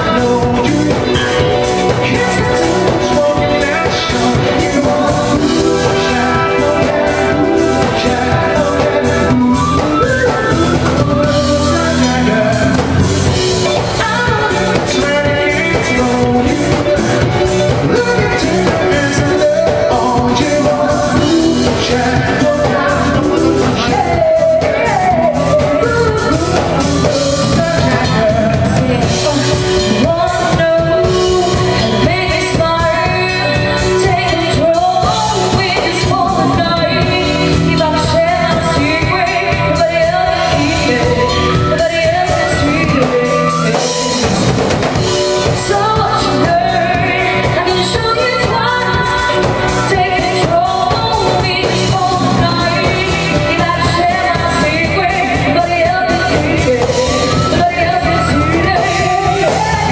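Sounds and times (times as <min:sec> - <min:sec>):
live band playing: 0:00.0 - 0:59.9
person singing: 0:00.0 - 0:59.9
steady drum beat: 0:00.0 - 0:59.9.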